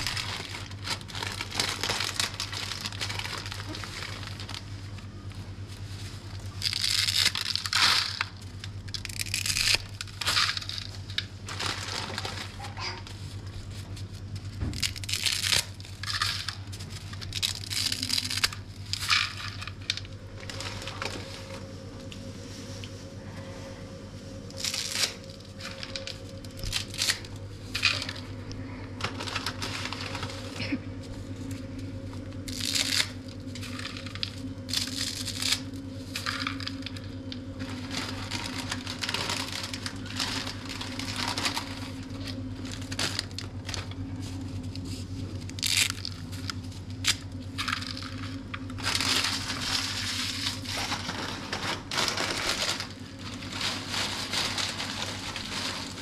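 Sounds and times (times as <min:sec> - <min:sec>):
rustling and crinkling: 0:00.0 - 0:56.0
steady low hum: 0:00.0 - 0:56.0.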